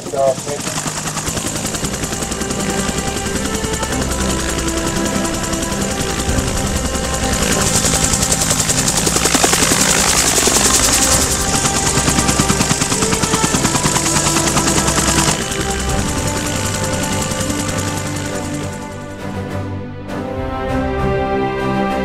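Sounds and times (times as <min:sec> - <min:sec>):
helicopter rotor beating: 0:00.0 - 0:19.4.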